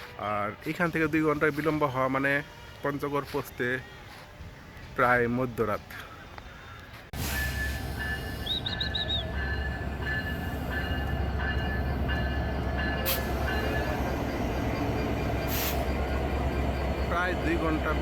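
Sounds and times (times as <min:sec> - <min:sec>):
train engine and coaches rumbling: 0:00.0 - 0:05.2, 0:06.1 - 0:18.0.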